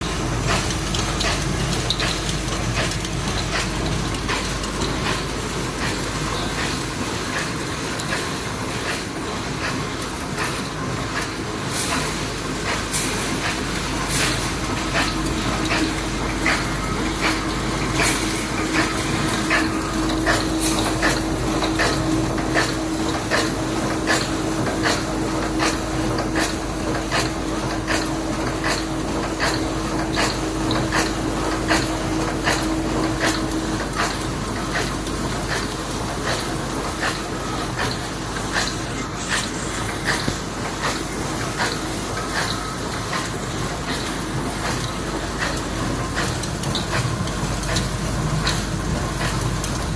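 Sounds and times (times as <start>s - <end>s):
constant hum: 0.0s - 49.9s
forging machine clattering: 0.0s - 49.9s
sharp machine clacks: 0.0s - 49.9s.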